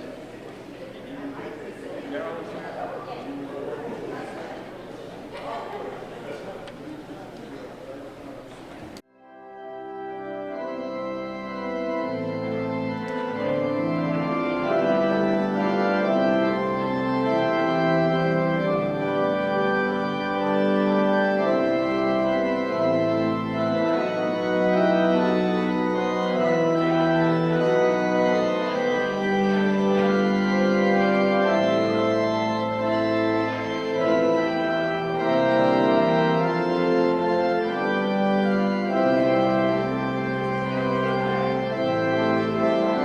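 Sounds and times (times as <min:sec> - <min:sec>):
organ playing sustained chords: 0:00.0 - 0:43.0.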